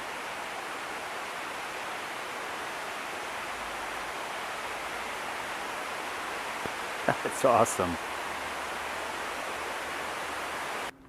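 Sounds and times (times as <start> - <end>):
rain falling on leaves: 0.0 - 10.9.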